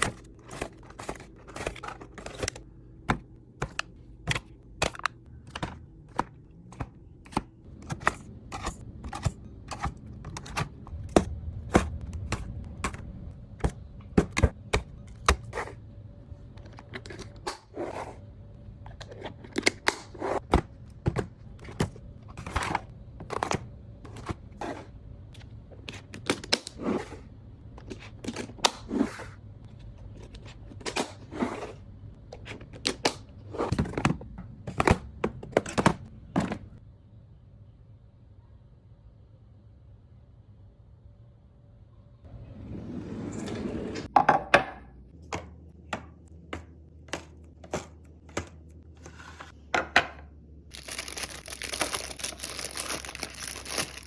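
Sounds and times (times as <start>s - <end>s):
grocery items clicking and knocking: 0.0s - 36.8s, 44.0s - 54.0s.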